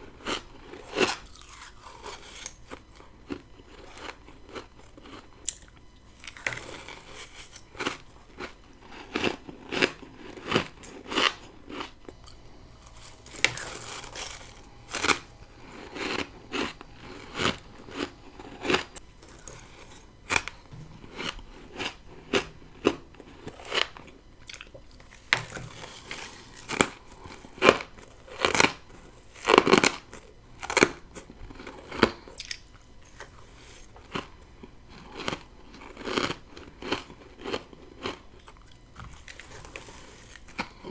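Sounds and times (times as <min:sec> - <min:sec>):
soft chewing: 0:00.0 - 0:40.9.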